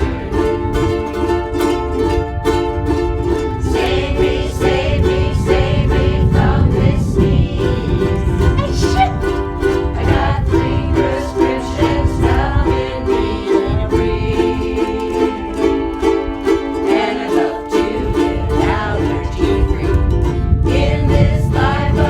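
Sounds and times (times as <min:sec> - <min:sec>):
ukuleles strumming chords: 0:00.0 - 0:22.0
voices singing along: 0:00.0 - 0:22.0.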